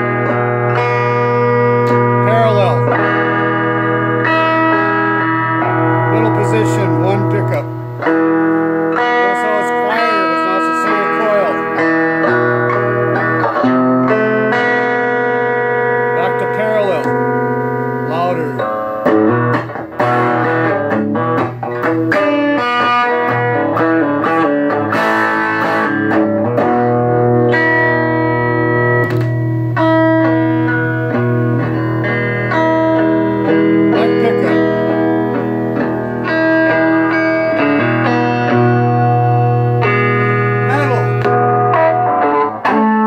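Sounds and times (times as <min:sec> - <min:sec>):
electric guitar: 0:00.0 - 0:43.0.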